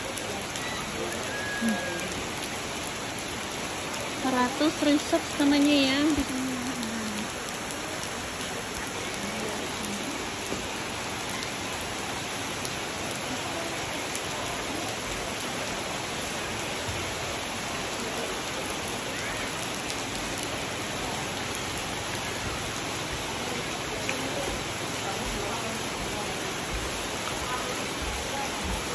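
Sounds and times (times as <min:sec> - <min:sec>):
raindrops ticking on wood: 0:00.0 - 0:28.9
steady rain hiss: 0:00.0 - 0:28.9.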